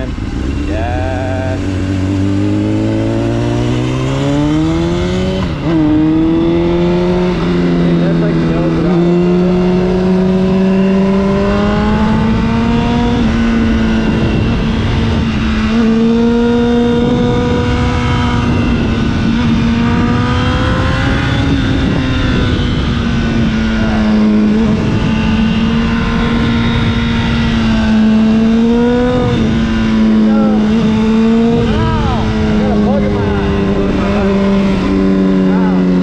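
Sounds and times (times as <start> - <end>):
motorcycle engine running: 0.0 - 36.0
wind noise rumble: 0.0 - 36.0.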